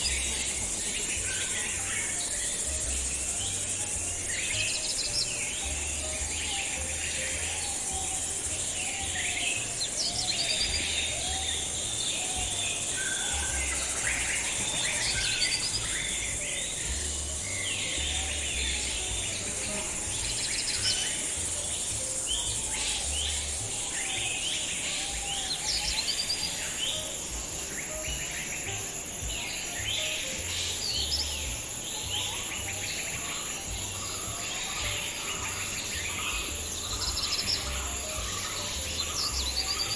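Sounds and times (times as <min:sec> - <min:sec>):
insects droning: 0:00.0 - 0:39.9
songbirds chirping: 0:00.0 - 0:39.9.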